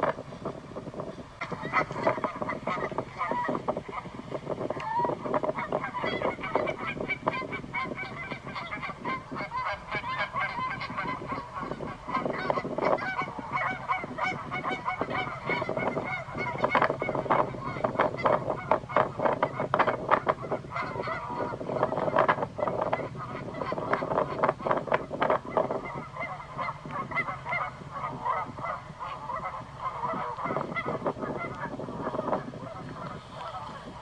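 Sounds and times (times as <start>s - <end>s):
flock of waterbirds calling: 0.0s - 34.0s.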